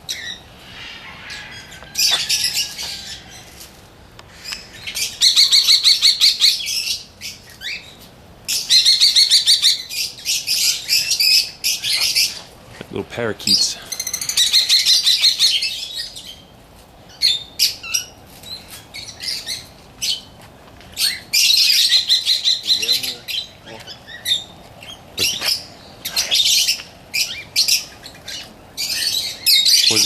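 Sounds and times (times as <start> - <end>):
parakeets chattering and chirping: 0.0 - 30.0.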